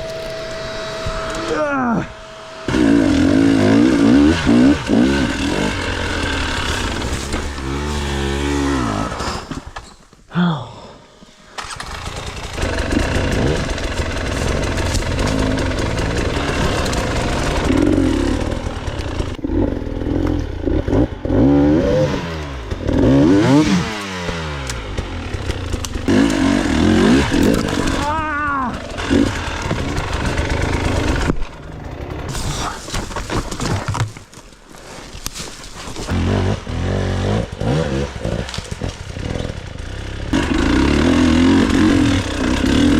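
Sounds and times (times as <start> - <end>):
motorcycle engines revving: 0.0 - 9.7, 11.6 - 32.5, 36.1 - 42.9.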